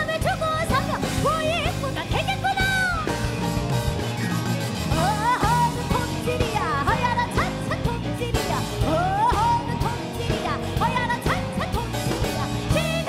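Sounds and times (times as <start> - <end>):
woman singing: 0.0 - 3.2, 4.9 - 13.0
rock band playing: 0.0 - 13.0.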